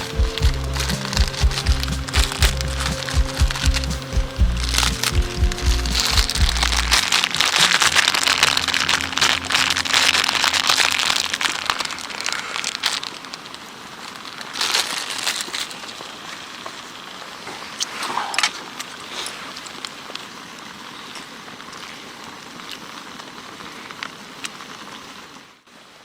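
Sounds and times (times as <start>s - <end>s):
wood fire crackling and popping: 0.0s - 25.5s.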